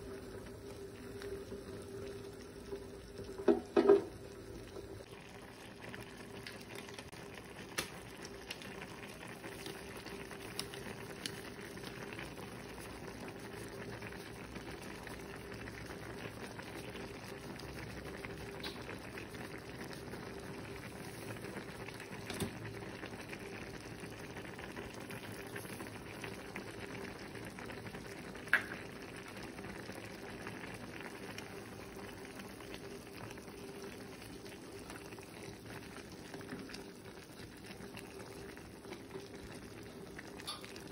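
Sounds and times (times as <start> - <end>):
broth boiling in a pot: 0.0 - 40.9.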